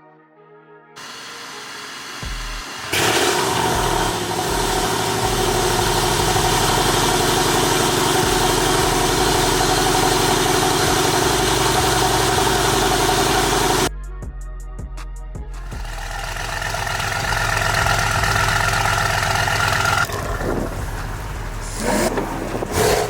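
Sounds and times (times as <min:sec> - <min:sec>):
car engine starting and idling: 0:01.0 - 0:13.9, 0:15.6 - 0:23.0.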